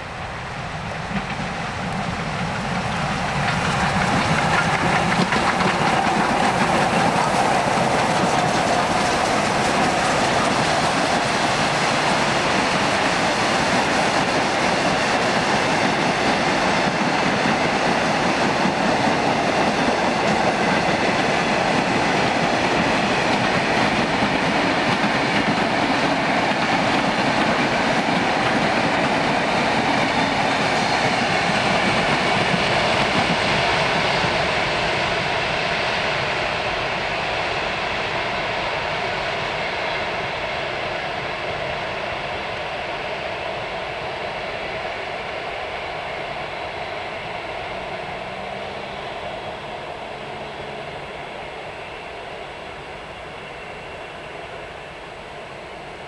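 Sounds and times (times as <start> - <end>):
steam train rolling past: 0.0 - 56.0.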